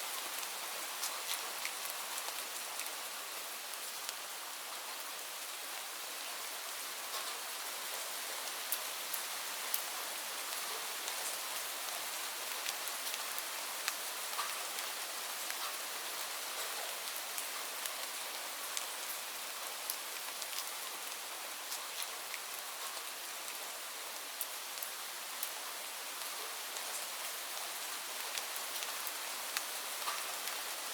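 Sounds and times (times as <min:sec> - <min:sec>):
steady rain hiss: 0:00.0 - 0:30.9
raindrops ticking on a surface: 0:00.1 - 0:05.6, 0:07.0 - 0:30.9.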